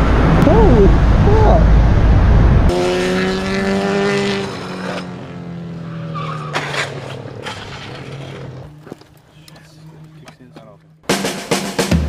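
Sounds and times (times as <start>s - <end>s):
motorcycle engine: 0.0s - 11.6s
wind: 0.0s - 12.0s.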